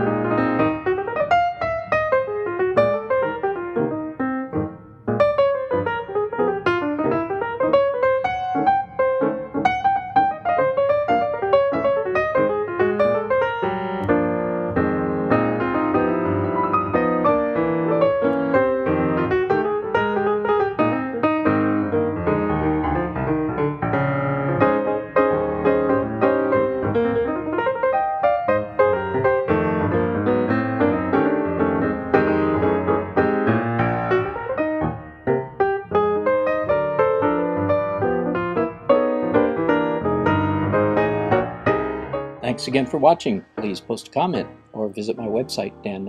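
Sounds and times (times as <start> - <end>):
background piano music: 0.0 - 46.0.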